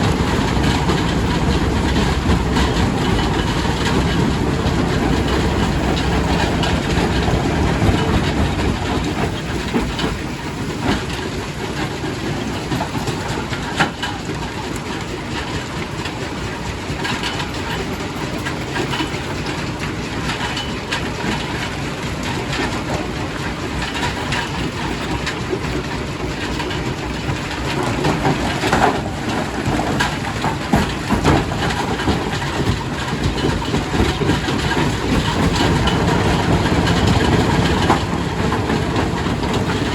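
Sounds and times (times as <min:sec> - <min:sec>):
rock crusher rumbling: 0:00.0 - 0:39.9.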